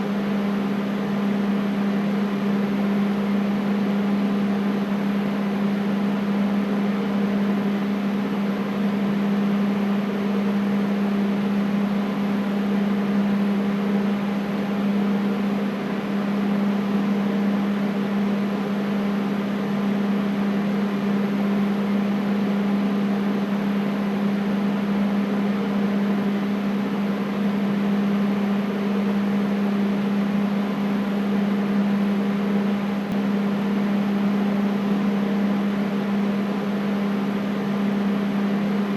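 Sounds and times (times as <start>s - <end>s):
air conditioner running: 0.0s - 38.9s.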